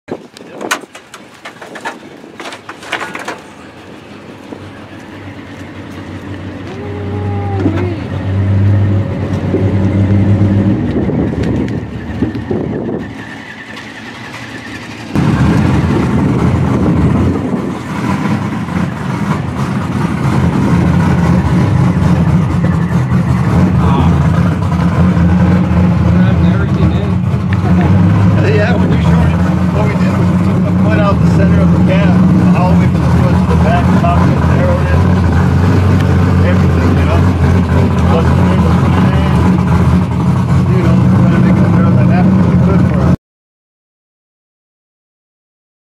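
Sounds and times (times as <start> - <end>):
vehicle engine idling: 0.4 - 43.2.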